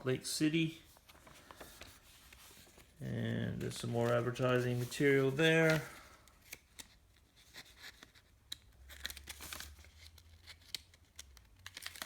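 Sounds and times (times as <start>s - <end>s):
paper pages rustling: 0.8s - 12.0s.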